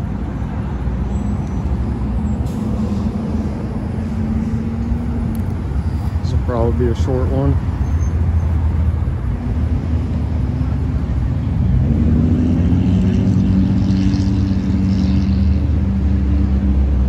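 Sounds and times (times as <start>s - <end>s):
engine hum: 0.0s - 17.0s
road traffic rumble: 0.0s - 17.0s.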